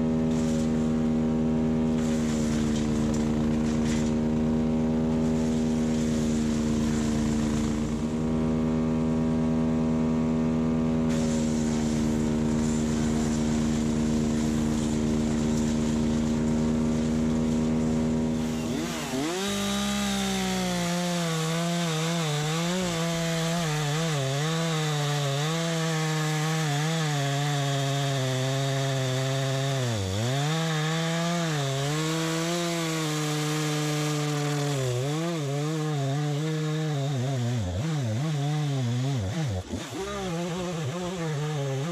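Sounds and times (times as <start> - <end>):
chainsaw cutting wood: 0.0 - 41.9
engine at high revs: 0.0 - 41.9.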